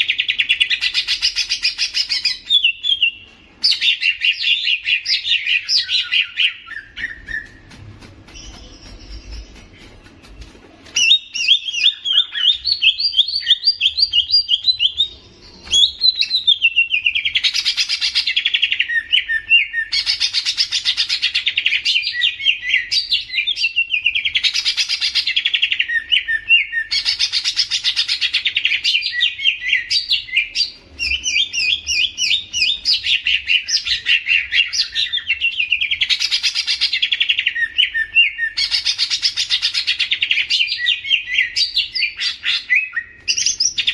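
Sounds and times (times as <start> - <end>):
songbird chattering song: 0.0 - 43.9.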